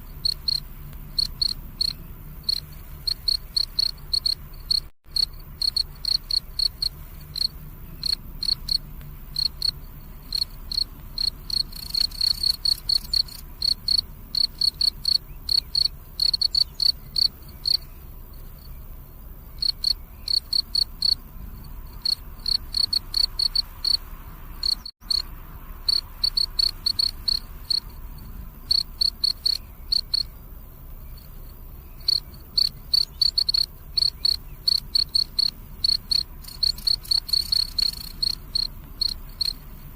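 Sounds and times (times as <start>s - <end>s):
background hiss: 0.0s - 39.9s
crickets chirping: 0.0s - 39.9s.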